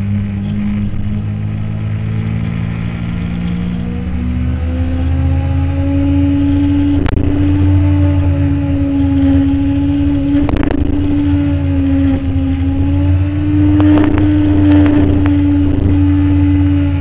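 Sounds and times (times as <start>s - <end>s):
low wind rumble: 0.0s - 17.0s
motorcycle engine running: 0.0s - 17.0s.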